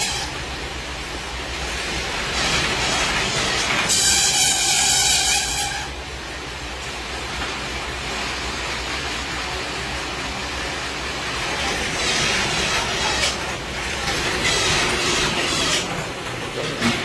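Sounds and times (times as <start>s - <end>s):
production machine running: 0.0s - 17.0s.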